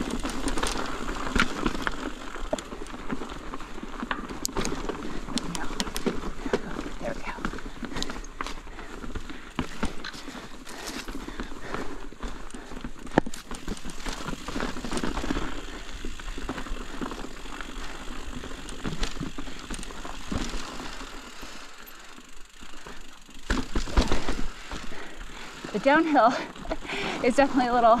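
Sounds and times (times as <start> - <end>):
bike tyres rolling on loose rock: 0.0 - 28.0.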